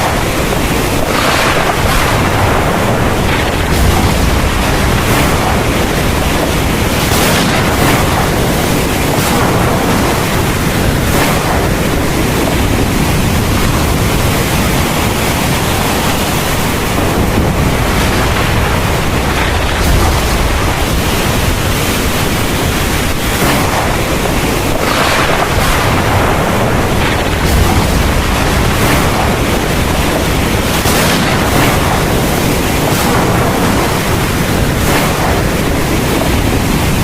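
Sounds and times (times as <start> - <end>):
deep rumble: 0.0 - 37.0
heavy rain pouring: 0.0 - 37.0.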